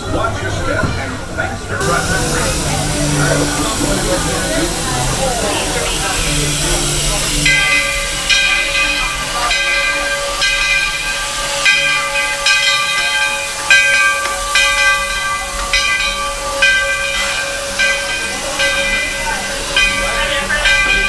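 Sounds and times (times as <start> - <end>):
steam hissing: 0.0 - 21.0
locomotive bell ringing: 1.0 - 21.0.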